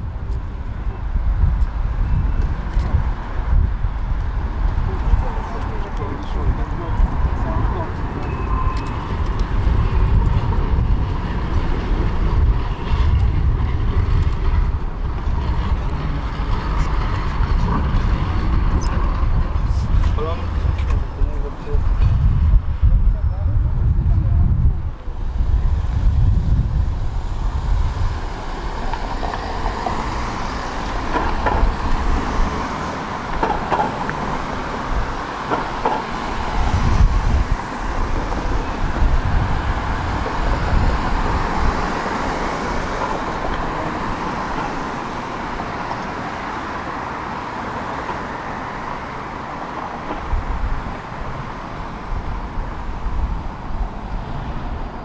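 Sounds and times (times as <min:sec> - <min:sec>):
cars passing: 0:00.0 - 0:55.0
low traffic rumbles: 0:00.0 - 0:55.0.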